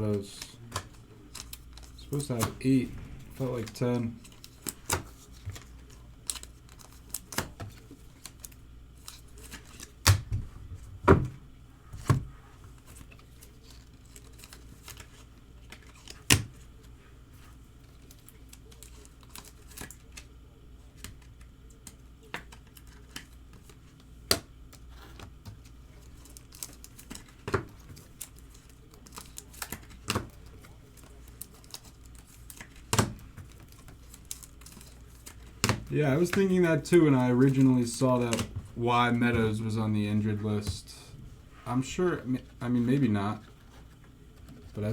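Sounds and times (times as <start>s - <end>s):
low room hum: 0.0s - 44.9s.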